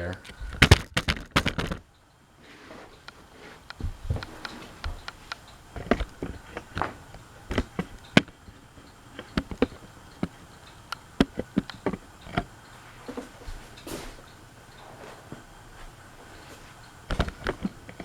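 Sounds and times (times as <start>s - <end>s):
sharp clicks and light knocks: 0.0s - 18.0s.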